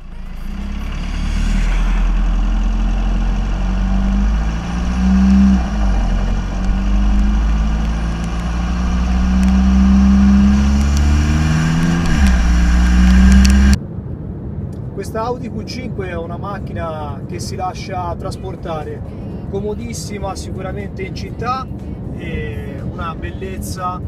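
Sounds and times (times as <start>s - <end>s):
diesel engine: 0.0s - 13.8s, 18.2s - 24.0s
wind rumble on microphone: 0.0s - 24.0s.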